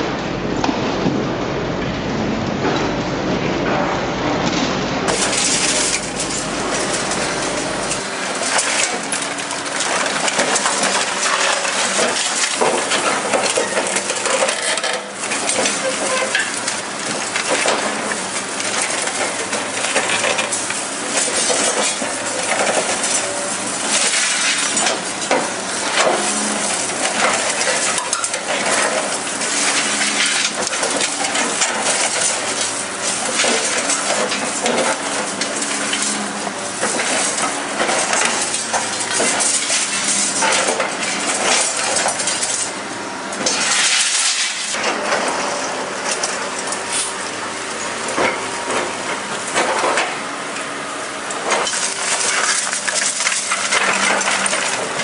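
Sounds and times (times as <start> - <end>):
heavy machine crushing scrap metal: 0.0 - 55.0.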